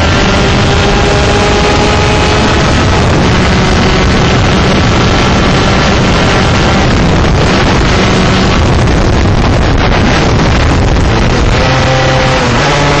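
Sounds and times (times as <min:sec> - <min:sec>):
kart engine: 0:00.0 - 0:13.0
wind buffeting microphone: 0:00.0 - 0:13.0.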